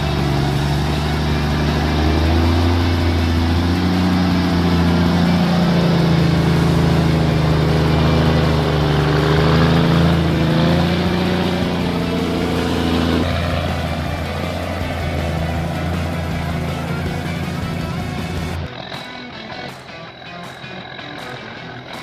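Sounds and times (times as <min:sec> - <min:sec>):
heavy truck engine running: 0:00.0 - 0:22.0.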